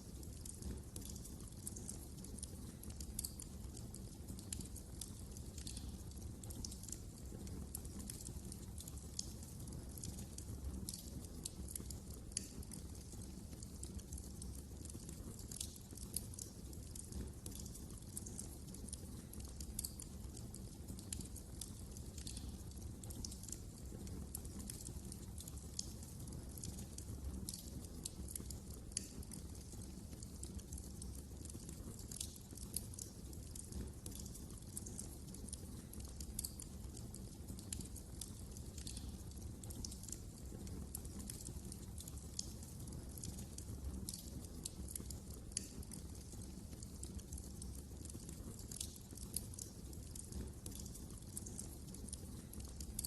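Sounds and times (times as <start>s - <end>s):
rumble of flames: 0.0s - 53.0s
wood fire snaps and pops: 0.0s - 53.0s.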